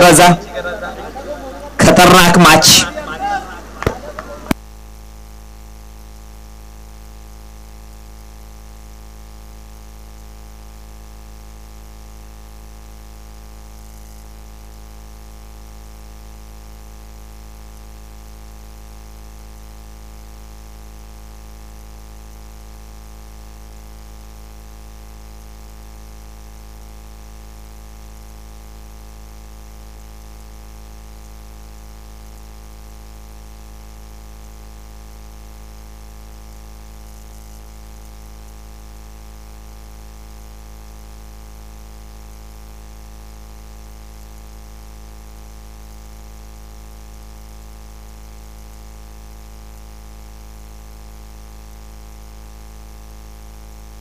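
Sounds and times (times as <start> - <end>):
steady electrical buzz: 0.0 - 54.0.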